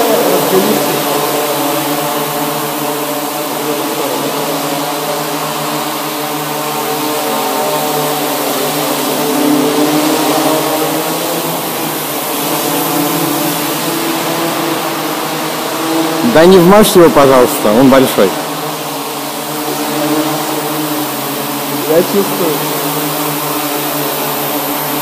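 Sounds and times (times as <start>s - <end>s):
drone propellers buzzing: 0.0s - 25.0s.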